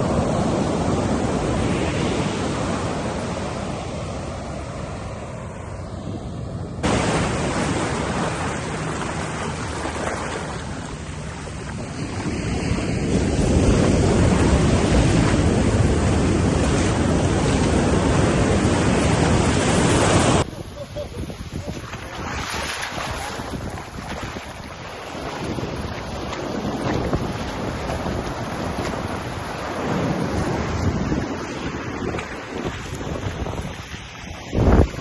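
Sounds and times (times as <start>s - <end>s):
surf breaking on a beach: 0.0s - 35.0s.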